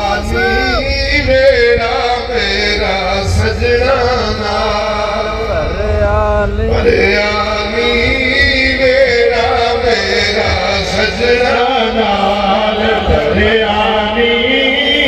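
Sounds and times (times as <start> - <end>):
steady low drone: 0.0 - 15.0
voice chanting long notes: 0.0 - 15.0.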